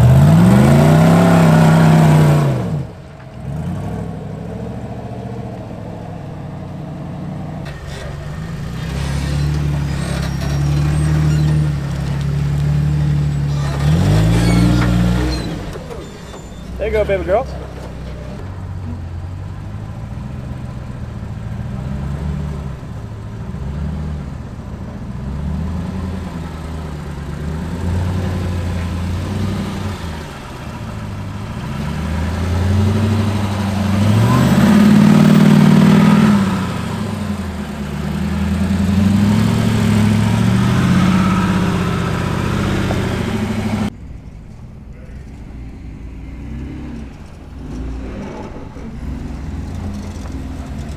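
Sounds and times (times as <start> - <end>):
engine revving: 0.0 - 44.0, 44.8 - 50.9.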